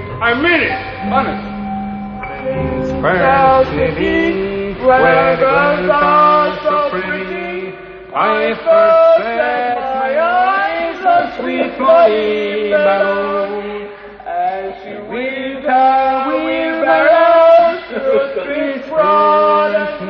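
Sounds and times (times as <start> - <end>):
men chanting: 2.3 - 20.0.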